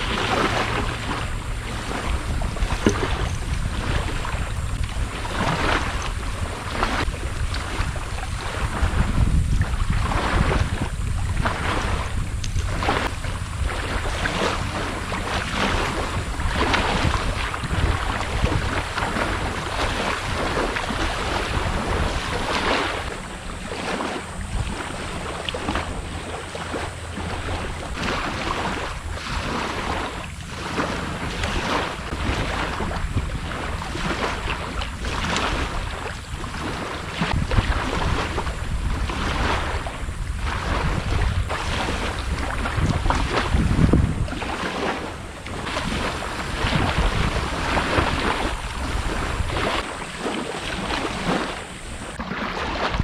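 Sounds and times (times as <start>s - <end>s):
wading through shallow water: 0.0s - 53.0s
wind rumbling on microphone: 0.0s - 53.0s.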